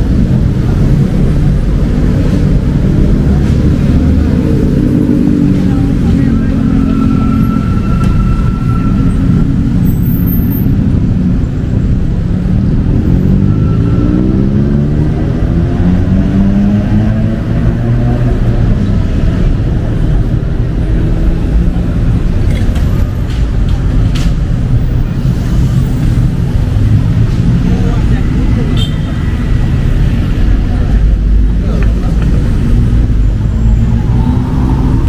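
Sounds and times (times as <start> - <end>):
vehicle engine accelerating: 0.0 - 9.9, 10.7 - 35.0
traffic rumble: 0.0 - 35.0.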